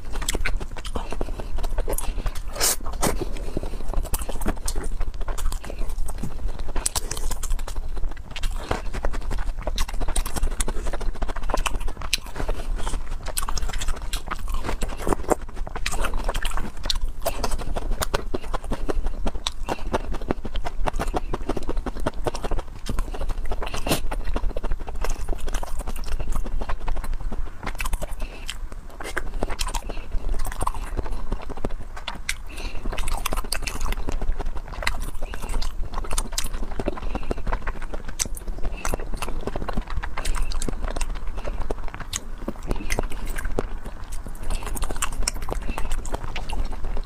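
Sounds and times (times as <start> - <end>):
mouth chewing food: 0.0 - 47.0.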